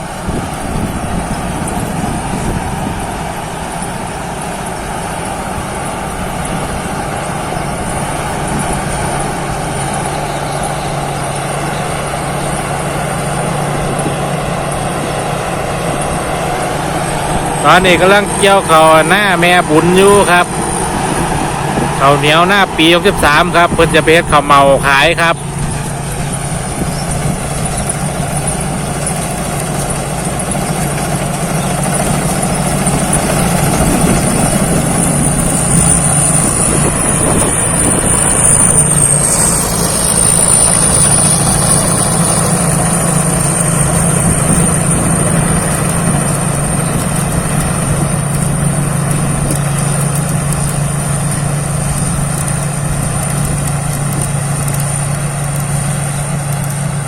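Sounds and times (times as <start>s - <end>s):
combine harvester engine hum: 0.0s - 57.0s
thin high whine: 0.0s - 57.0s.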